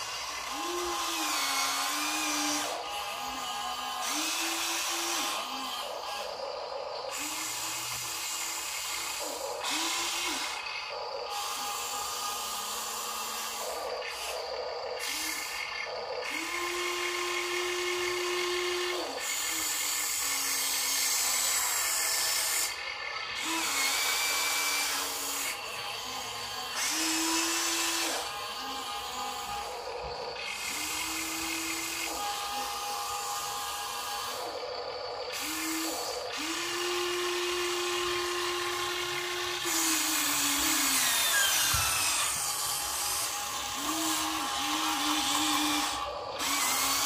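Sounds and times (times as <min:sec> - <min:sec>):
small electric motors whining: 0:00.0 - 0:47.0.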